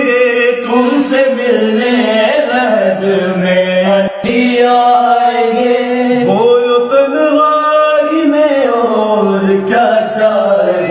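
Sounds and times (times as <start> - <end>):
man singing a lament: 0.0 - 10.9.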